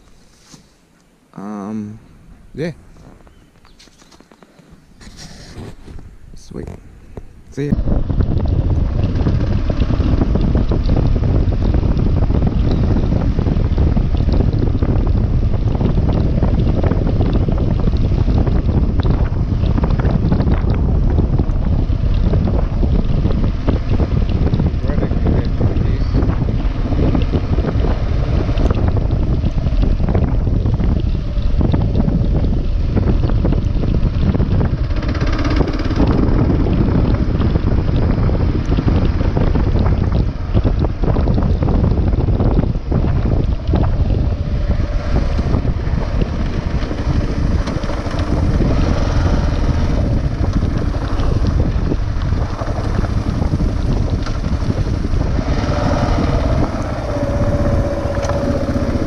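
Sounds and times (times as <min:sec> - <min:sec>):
wind buffeting microphone: 0:01.4 - 0:59.0
motorcycle engine running: 0:07.2 - 0:59.0.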